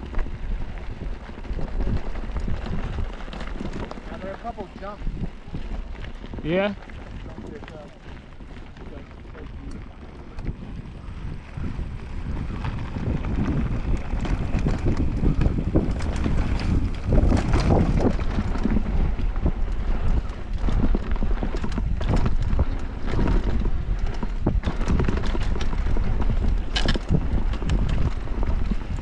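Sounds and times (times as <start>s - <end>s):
bike rattling and knocking: 0.0s - 29.0s
bike tyres rumbling over dirt: 0.0s - 29.0s
wind buffeting microphone: 0.0s - 29.0s.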